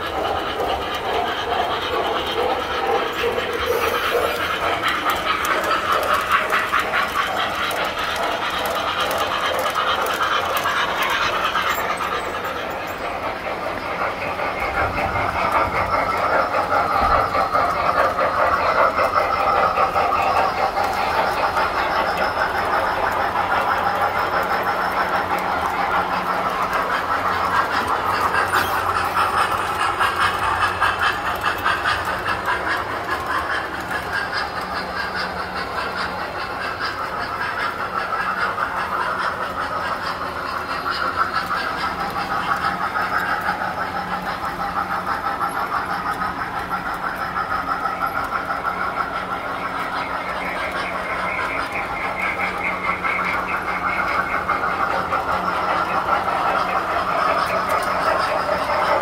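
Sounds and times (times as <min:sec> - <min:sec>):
toy train wheels clicking on track: 0:00.0 - 0:59.0.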